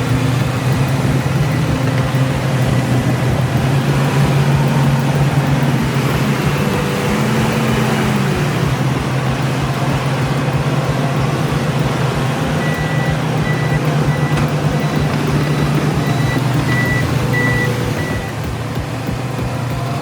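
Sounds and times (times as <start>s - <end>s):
heavy vehicle engine running: 0.0s - 20.0s
reversing alarm beeping: 0.0s - 20.0s.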